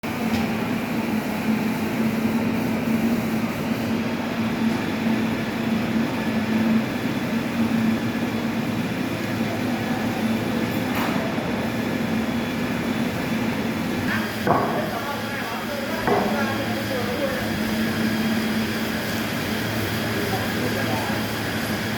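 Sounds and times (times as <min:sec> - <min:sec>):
sawmill machinery drone: 0:00.0 - 0:21.9.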